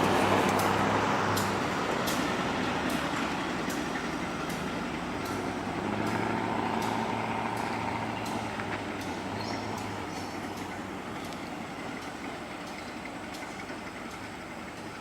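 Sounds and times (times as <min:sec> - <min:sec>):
locomotive diesel engine running: 0:00.0 - 0:15.0
sharp regular ticks: 0:00.4 - 0:14.3.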